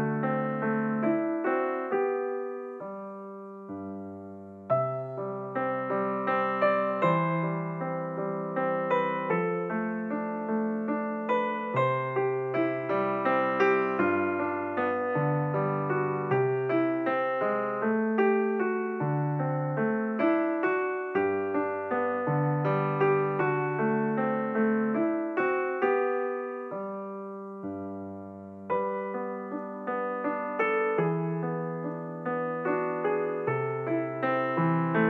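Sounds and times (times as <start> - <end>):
solo piano playing: 0.0 - 35.0.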